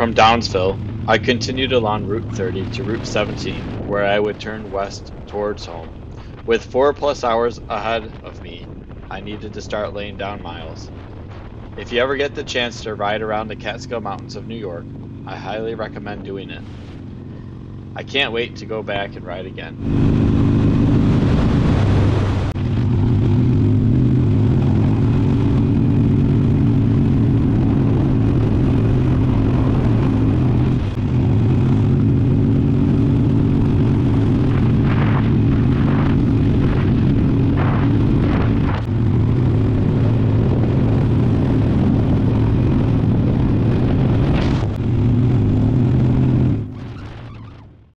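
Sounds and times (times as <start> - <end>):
wind rushing: 0.0 - 13.5, 19.7 - 46.8
motorcycle engine running: 0.0 - 47.8.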